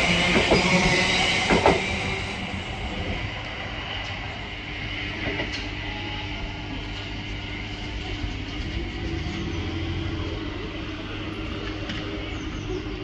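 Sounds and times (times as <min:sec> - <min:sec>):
train passing: 0:00.0 - 0:13.0.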